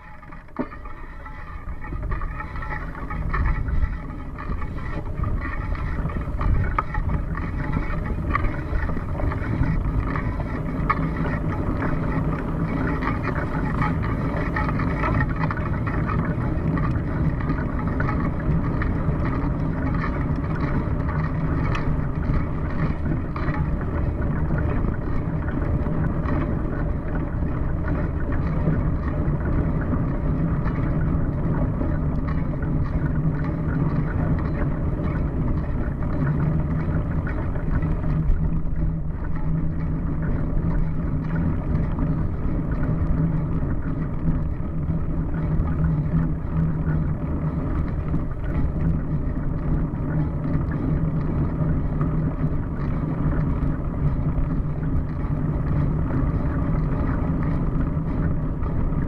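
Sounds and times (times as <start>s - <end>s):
bicycle rattles and knocks: 0.0s - 59.0s
bicycle tyre rumble: 0.0s - 59.0s
wind noise on microphone: 0.0s - 59.0s.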